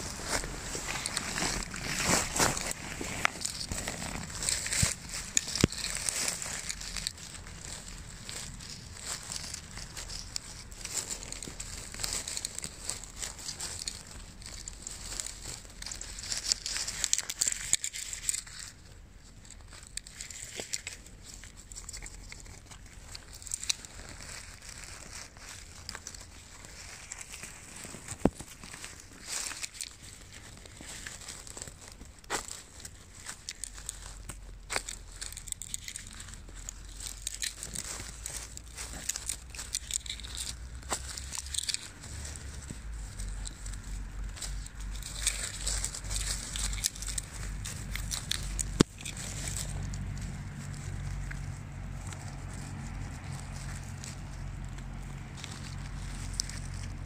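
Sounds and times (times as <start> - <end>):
pine needles and twigs crackling: 0.0 - 57.0
twigs snapping: 0.0 - 57.0.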